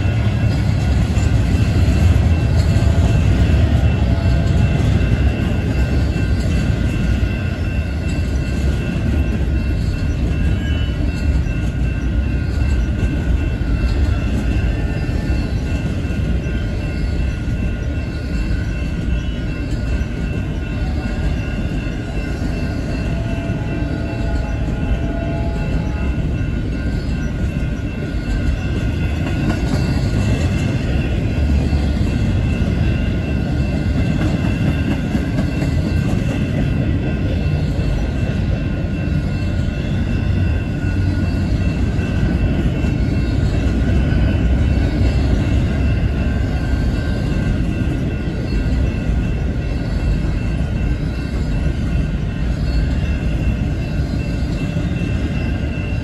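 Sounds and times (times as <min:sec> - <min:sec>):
high ringing wheel tones: 0:00.0 - 0:56.0
train wheels rumbling on rails: 0:00.0 - 0:56.0.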